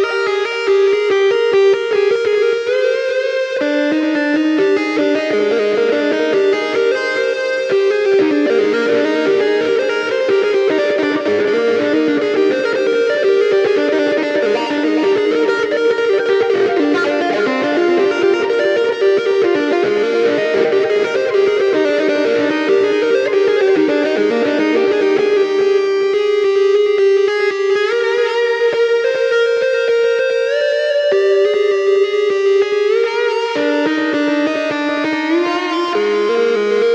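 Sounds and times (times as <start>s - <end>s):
fast electric guitar notes: 0.0s - 36.9s.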